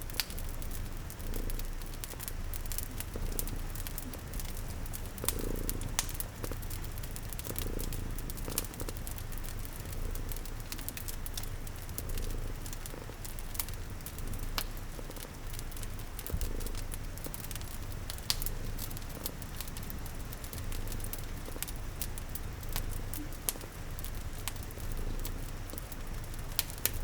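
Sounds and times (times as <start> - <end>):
cat purring: 0.0 - 27.0
wood fire crackling: 0.0 - 27.0.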